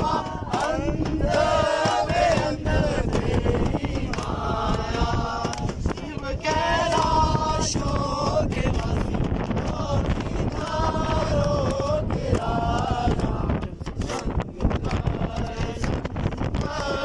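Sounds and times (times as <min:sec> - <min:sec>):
group chanting: 0:00.0 - 0:17.0
hand clapping: 0:00.0 - 0:17.0.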